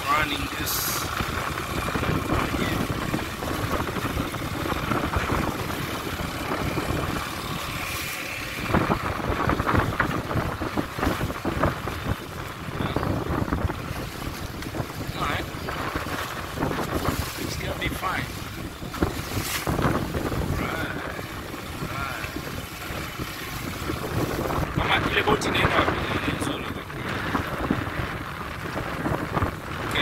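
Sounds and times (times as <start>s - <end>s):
water slapping against hull: 0.0s - 30.0s
wind buffeting microphone: 0.0s - 30.0s.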